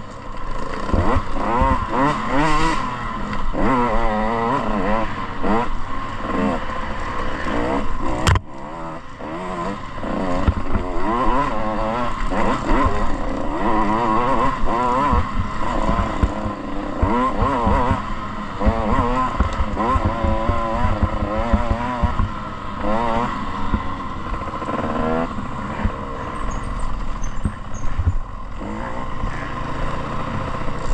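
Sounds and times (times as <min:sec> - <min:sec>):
motocross bike engine revving: 0:00.0 - 0:30.9.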